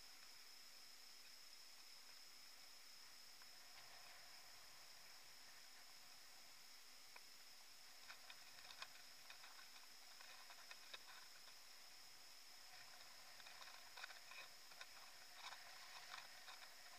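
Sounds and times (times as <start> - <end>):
faint clicks and ticks: 0.0 - 16.9
faint high whine: 0.0 - 16.9
recorder hiss: 0.0 - 16.9.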